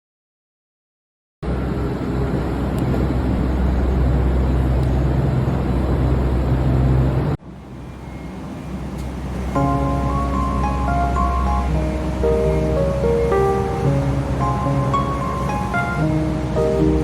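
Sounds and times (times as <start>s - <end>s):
refrigeration machinery hum: 1.5s - 17.0s.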